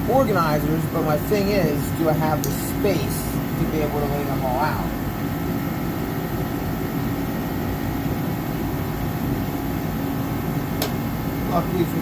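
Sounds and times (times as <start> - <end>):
heater droning: 0.0 - 12.0.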